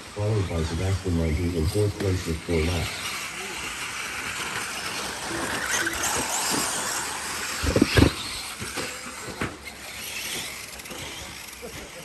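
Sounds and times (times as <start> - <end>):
small motors whirring on dirt: 0.0 - 12.0.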